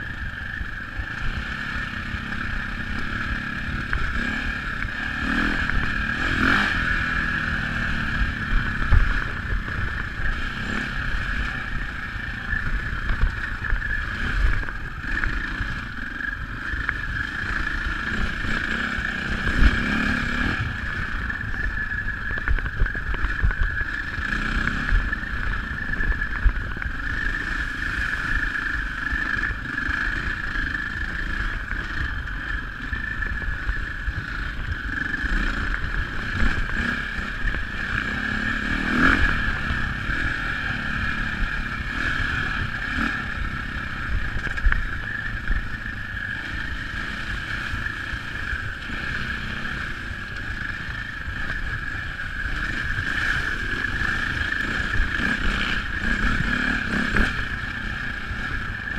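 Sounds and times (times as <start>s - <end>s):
dirt bike engine droning: 0.0s - 58.9s.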